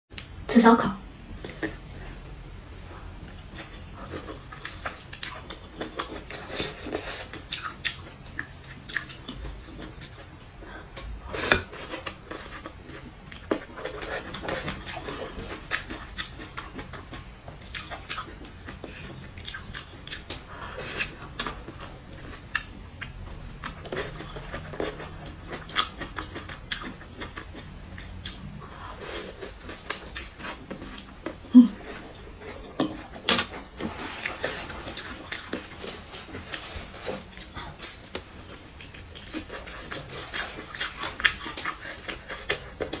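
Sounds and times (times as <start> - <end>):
person chewing: 1.3 - 43.0.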